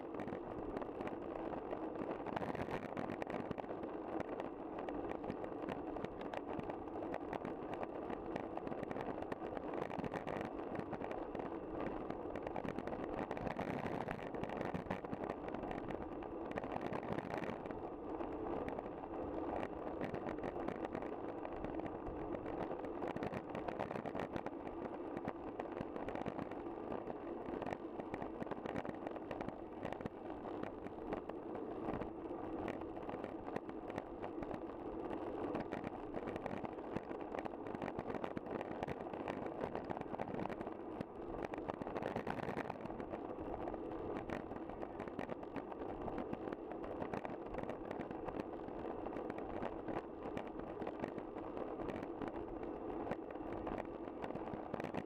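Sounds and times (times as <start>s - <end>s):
bicycle tyre hum: 0.0s - 55.0s.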